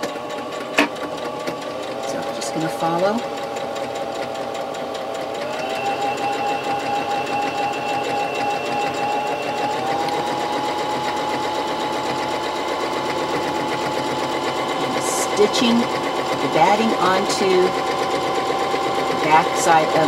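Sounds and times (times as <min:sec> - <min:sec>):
electric sewing machine running: 0:00.0 - 0:20.0.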